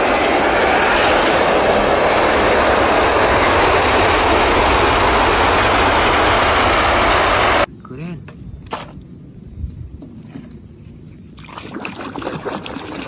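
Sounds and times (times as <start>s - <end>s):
jet engines at takeoff: 0.0s - 11.3s.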